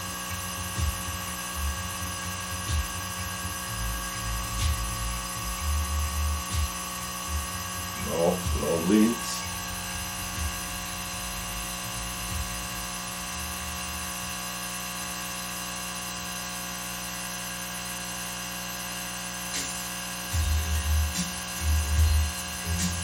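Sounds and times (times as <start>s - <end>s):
small electric motor humming: 0.0s - 23.0s.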